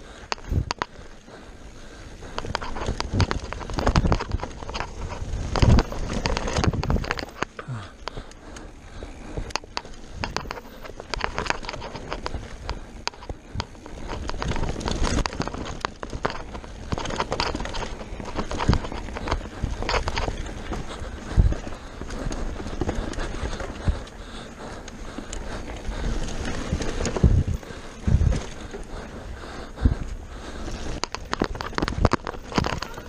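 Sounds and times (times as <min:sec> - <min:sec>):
tyres crunching over dirt: 0:00.3 - 0:33.0
bike knocks and rattles: 0:02.2 - 0:08.3, 0:08.9 - 0:29.1, 0:29.8 - 0:33.0.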